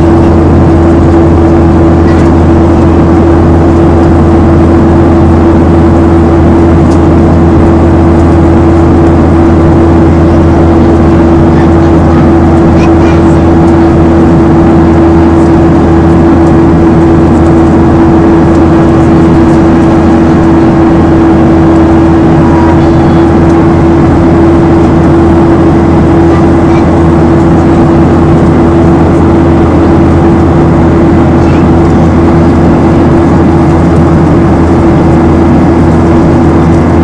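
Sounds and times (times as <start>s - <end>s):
airplane cabin engine drone: 0.0s - 37.0s.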